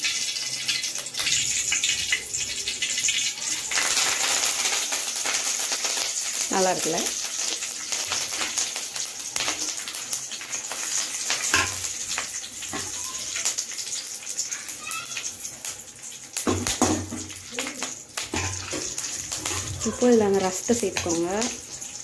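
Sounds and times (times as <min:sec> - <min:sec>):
hot oil crackling and sizzling: 0:00.0 - 0:22.0.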